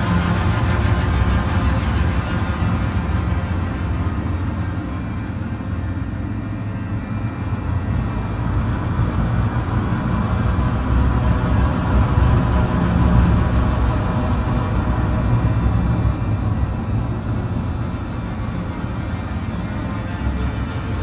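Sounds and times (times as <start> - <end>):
dark ambient drone music: 0.0 - 21.0.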